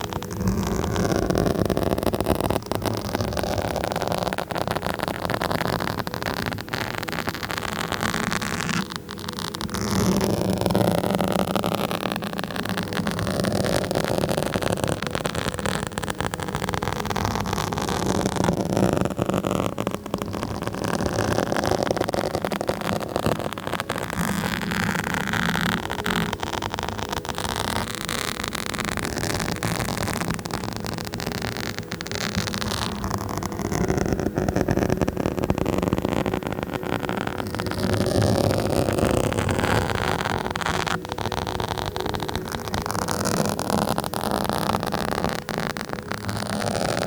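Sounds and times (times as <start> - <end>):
fingers scratching on microphone: 0.0 - 47.0.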